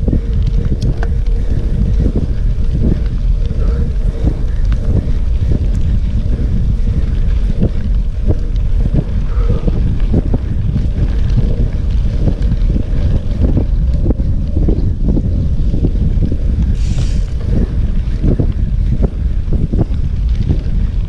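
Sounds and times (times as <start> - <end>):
bike rattling over bumps: 0.0 - 21.0
wind buffeting microphone: 0.0 - 21.0.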